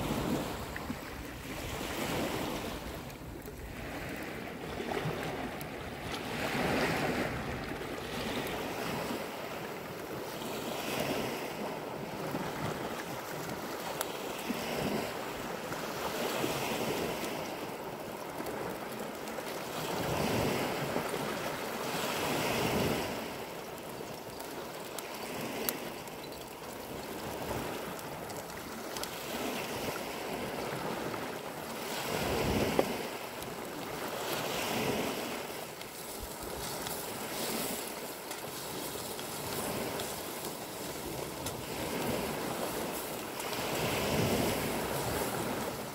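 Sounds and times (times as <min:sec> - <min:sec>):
waves washing on rocky shore: 0:00.0 - 0:45.9.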